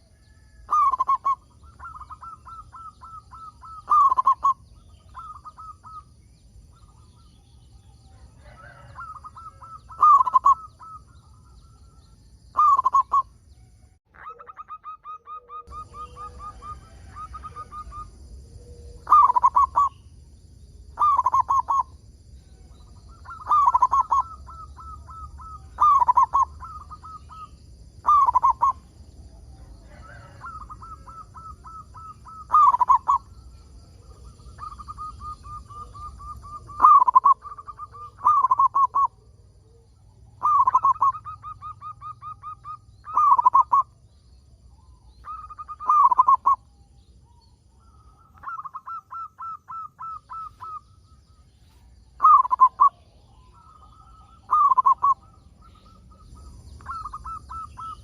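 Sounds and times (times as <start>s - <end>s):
doves cooing: 0.0s - 13.4s, 14.2s - 20.2s, 20.8s - 58.0s.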